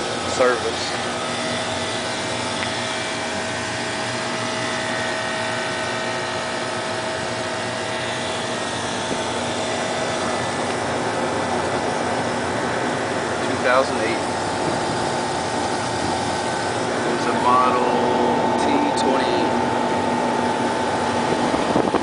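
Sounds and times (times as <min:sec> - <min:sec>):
cooling tower rushing: 0:00.0 - 0:22.0.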